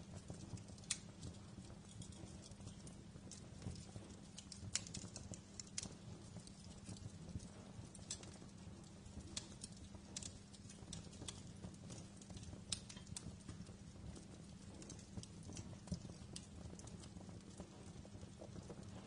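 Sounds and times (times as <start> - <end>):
wood fire crackling: 0.0 - 19.0
sharp pops and snaps: 0.2 - 19.0.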